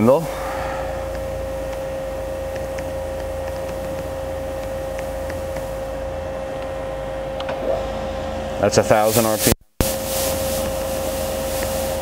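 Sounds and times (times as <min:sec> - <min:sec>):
machine whine over hum: 0:00.0 - 0:12.0.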